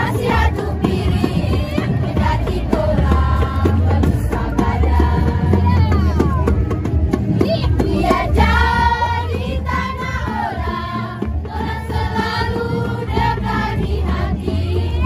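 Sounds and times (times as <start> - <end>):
girls singing in chorus: 0.0 - 6.2, 7.7 - 15.0.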